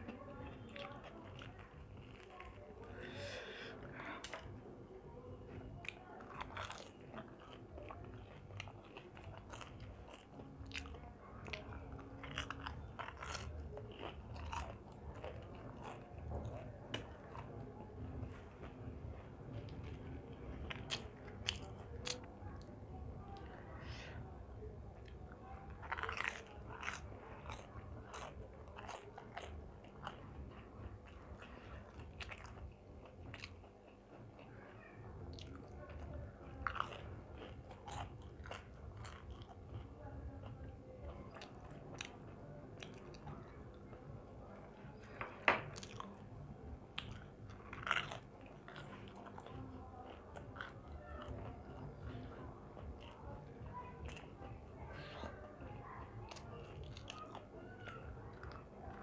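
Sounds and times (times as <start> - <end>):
person chewing crunchy food: 0.1 - 4.6, 5.5 - 59.0.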